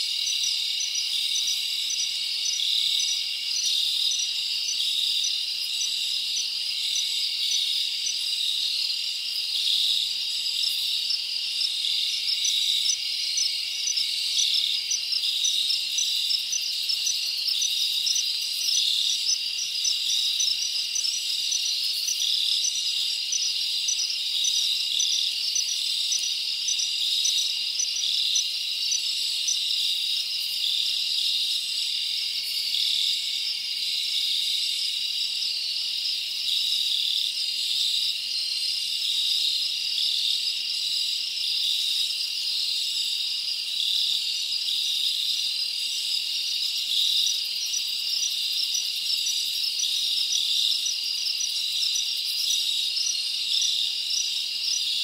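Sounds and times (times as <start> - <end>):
insect chirps: 0.0 - 55.0
night insects trilling: 0.0 - 55.0.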